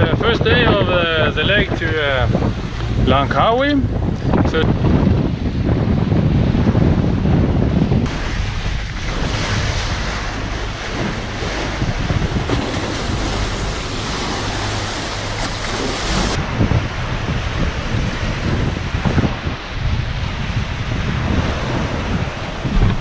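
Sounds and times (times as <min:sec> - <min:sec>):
sea water rushing along hulls: 0:00.0 - 0:23.0
steady low rumble: 0:00.0 - 0:23.0
wind buffeting microphone: 0:00.0 - 0:23.0.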